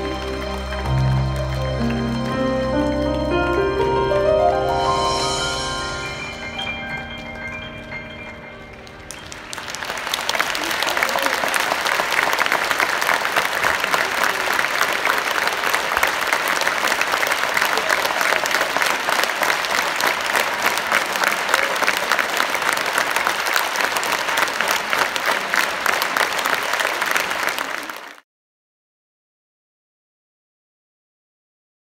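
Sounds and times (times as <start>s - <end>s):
large audience applauding: 0.0s - 28.2s.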